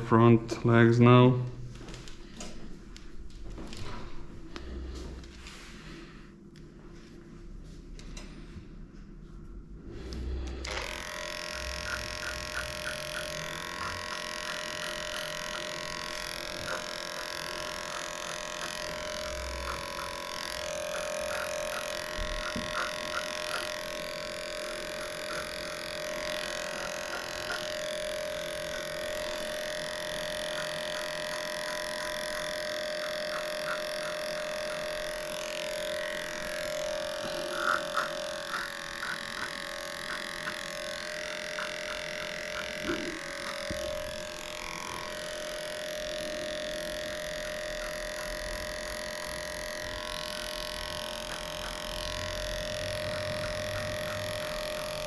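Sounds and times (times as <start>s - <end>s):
electric dog clippers humming: 9.8s - 55.0s.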